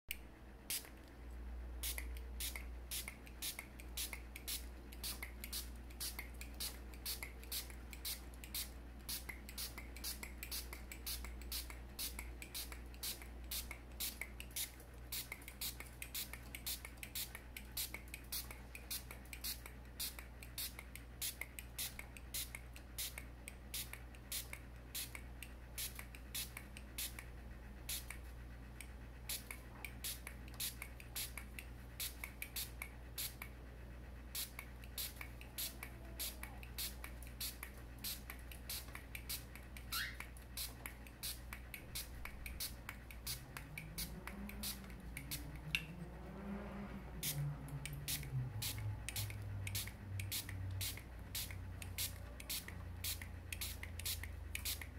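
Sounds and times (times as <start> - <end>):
steady low hum: 0.1 - 54.9
spray bottle hissing sprays: 0.7 - 1.0, 1.8 - 28.3, 29.3 - 33.5, 34.3 - 45.7, 47.2 - 54.9.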